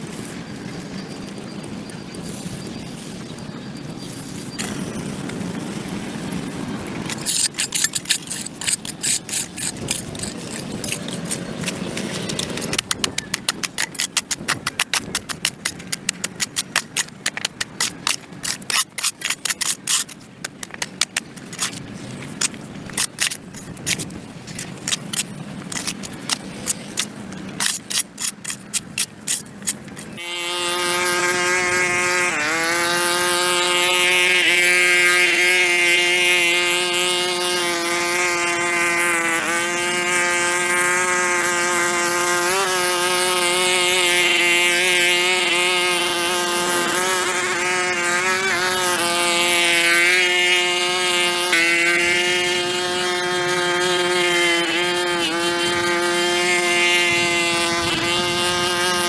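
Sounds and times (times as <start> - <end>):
small motor whining: 4.2 - 59.0
hand tool scraping concrete: 6.1 - 59.0.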